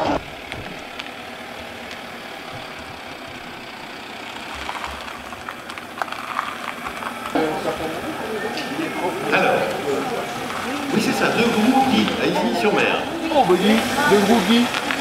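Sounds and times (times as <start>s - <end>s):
van engine running at low revs: 0.0s - 15.0s.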